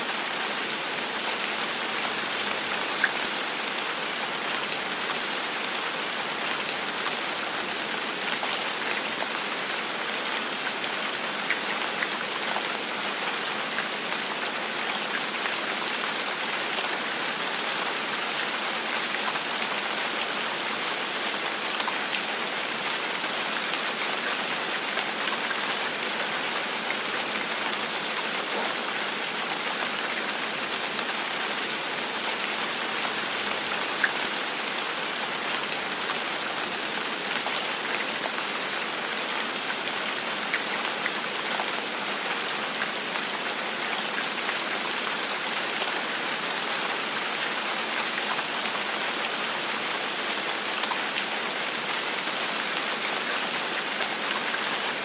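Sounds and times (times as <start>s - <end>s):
gentle rain falling: 0.0s - 55.0s
patter of raindrops: 0.1s - 55.0s.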